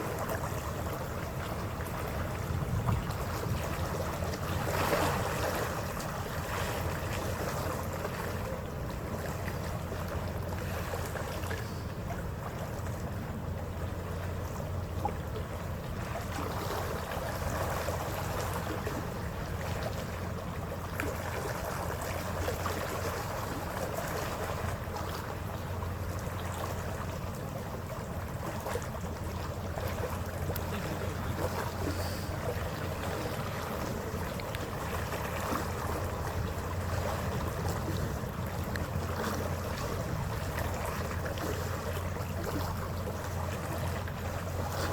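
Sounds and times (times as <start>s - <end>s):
ferry engine hum: 0.0s - 44.9s
water washing along hull: 0.0s - 44.9s
wind: 0.0s - 44.9s.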